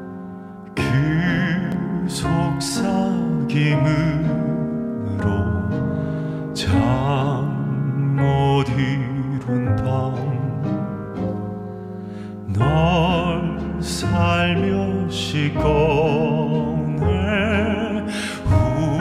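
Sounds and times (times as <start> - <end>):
instrumental backing: 0.0 - 19.0
man singing in bass voice: 0.8 - 11.1, 12.5 - 19.0.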